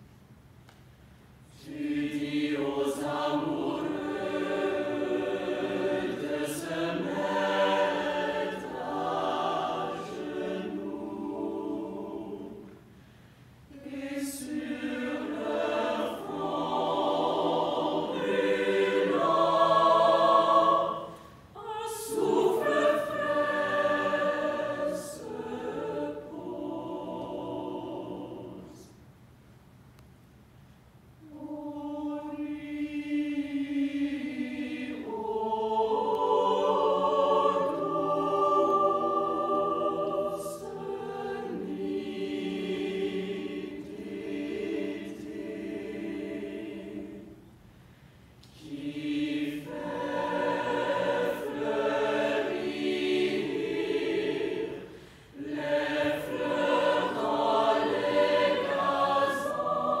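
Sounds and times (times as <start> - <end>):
mixed choir singing: 1.5 - 12.9, 13.7 - 29.0, 31.2 - 47.6, 48.4 - 60.0.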